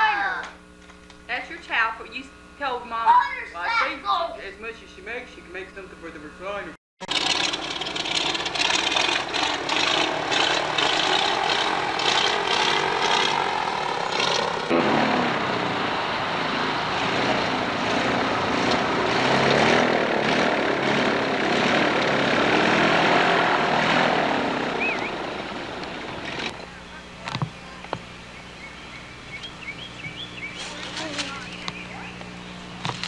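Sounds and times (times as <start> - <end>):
airboat engine and propeller drone: 5.0 - 33.0.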